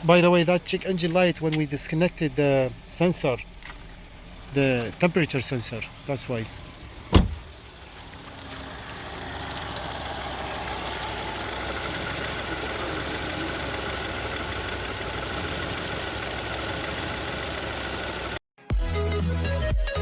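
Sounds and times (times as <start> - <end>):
car engine rough idle: 0.0 - 18.4.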